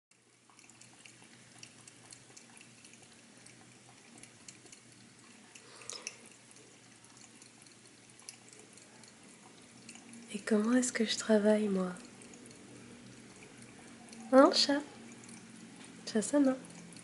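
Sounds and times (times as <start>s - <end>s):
cat lapping water: 0.1s - 17.0s
low steady hum: 0.1s - 17.0s.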